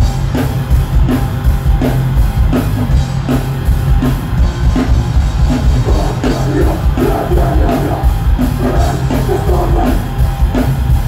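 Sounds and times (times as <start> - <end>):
metal band playing loud: 0.0 - 11.0.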